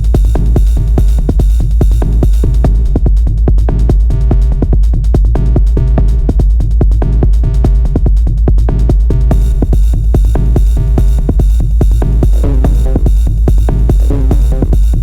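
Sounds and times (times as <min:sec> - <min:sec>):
techno groove: 0:00.0 - 0:15.0.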